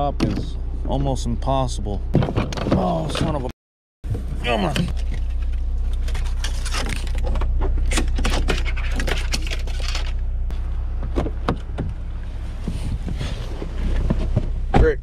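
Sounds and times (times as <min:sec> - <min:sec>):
steady low hum: 0:00.0 - 0:03.5, 0:04.1 - 0:15.0.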